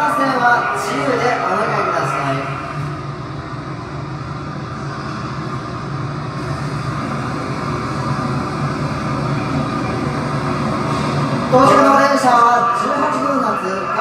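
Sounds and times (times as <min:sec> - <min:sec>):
train rumble through speakers: 0:00.0 - 0:14.0.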